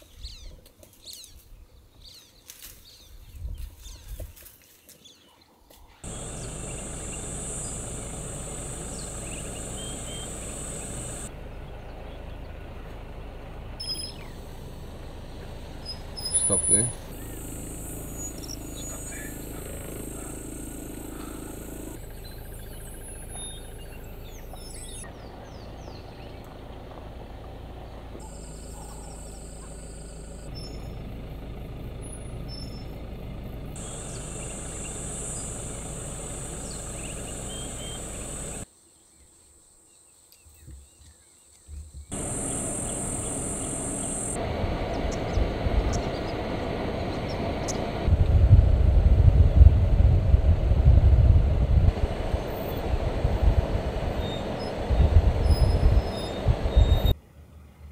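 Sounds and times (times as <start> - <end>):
bird calls: 0.0 - 27.0, 27.8 - 38.7, 40.4 - 48.1, 54.1 - 57.2
heavy low rumble: 6.0 - 38.6, 42.1 - 57.2
vehicle engine hum: 6.0 - 38.7, 42.0 - 57.8.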